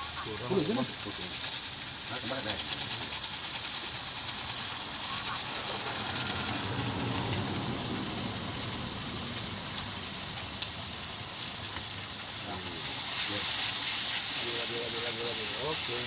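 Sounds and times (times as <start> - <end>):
spice paste sizzling in oil: 0.0 - 16.0.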